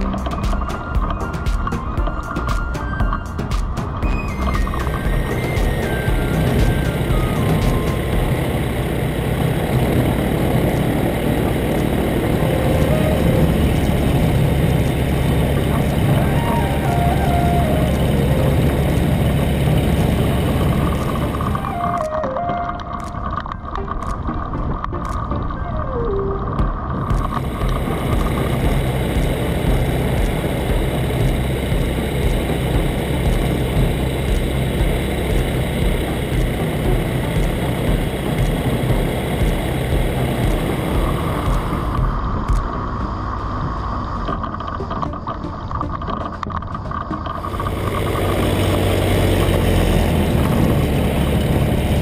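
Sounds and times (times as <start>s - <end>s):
light aircraft engine and propeller: 0.0s - 52.0s.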